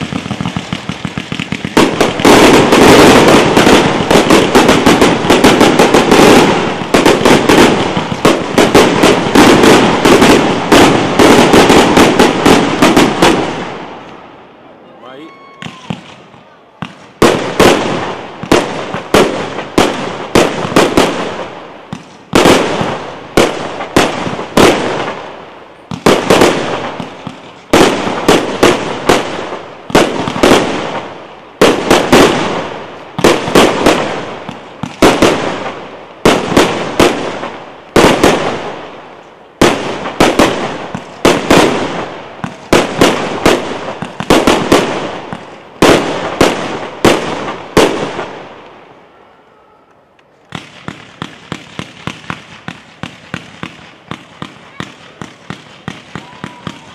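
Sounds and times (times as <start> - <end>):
fireworks bursting with loud bangs: 0.0 - 56.9.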